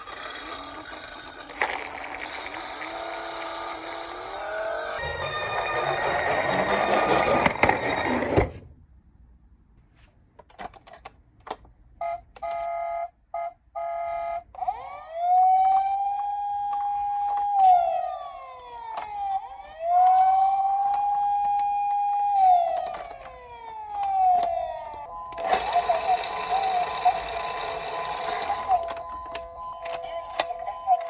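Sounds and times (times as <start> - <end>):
toy police siren wailing: 0.0 - 8.1, 13.8 - 31.0.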